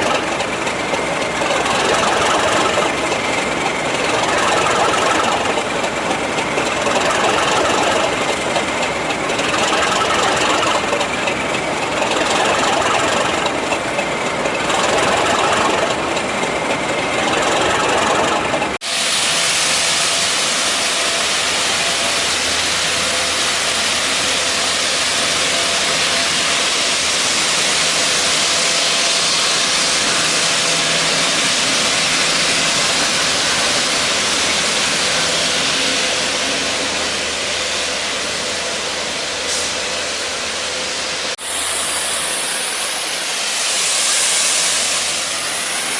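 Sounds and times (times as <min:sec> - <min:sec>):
diesel locomotive engine pulsing: 0:00.0 - 0:45.9.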